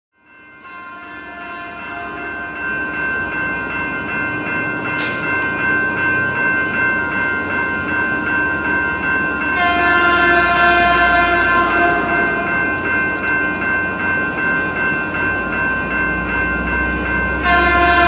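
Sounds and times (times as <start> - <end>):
level crossing bell ringing: 0.3 - 18.0
train rumbling: 0.6 - 18.0.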